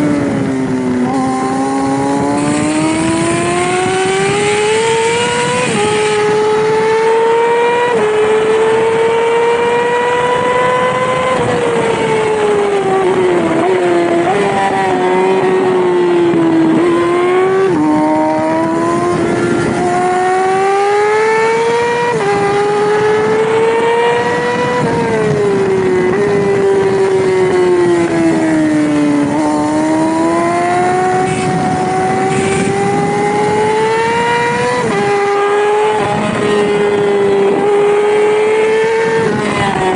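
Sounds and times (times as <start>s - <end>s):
racing motorcycle engine at high revs: 0.0s - 39.9s.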